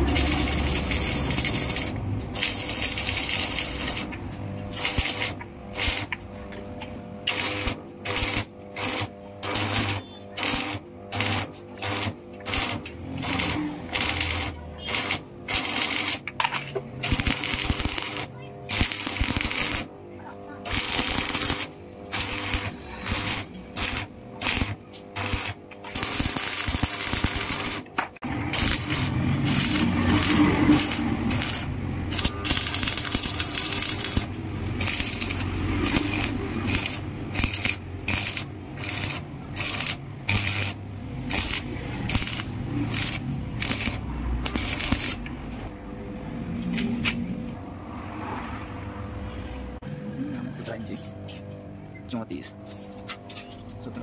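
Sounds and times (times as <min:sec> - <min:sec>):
welding arc crackling: 0:00.0 - 0:45.8.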